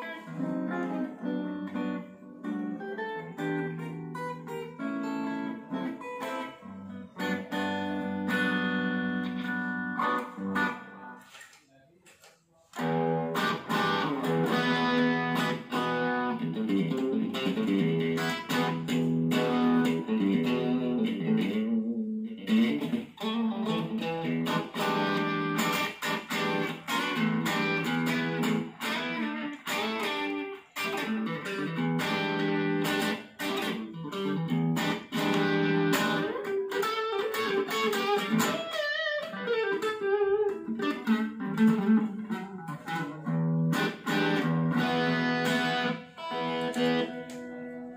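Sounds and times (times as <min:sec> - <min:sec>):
overdriven electric guitar lead: 0:00.0 - 0:11.4, 0:12.8 - 0:47.9.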